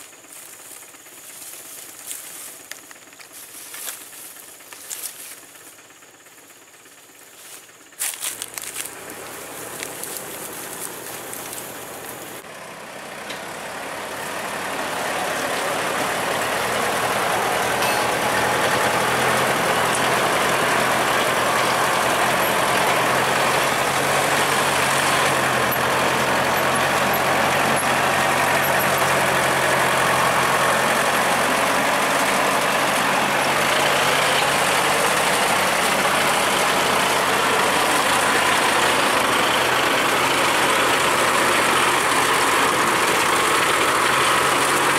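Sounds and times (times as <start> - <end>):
heavy truck engine running: 0.0 - 44.9.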